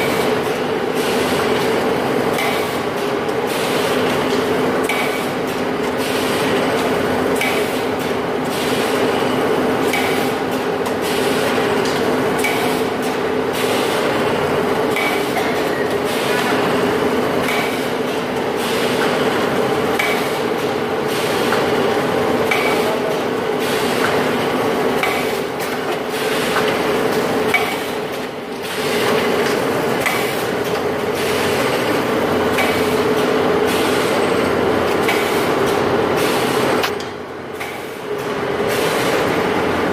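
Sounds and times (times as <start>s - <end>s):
packing machine humming: 0.0s - 39.9s.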